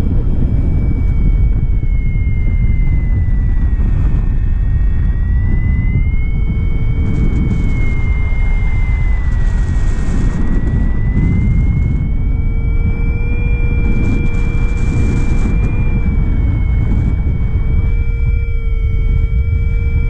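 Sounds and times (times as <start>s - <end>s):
steady high tone: 0.0s - 20.0s
wind rushing over microphone: 0.0s - 20.0s.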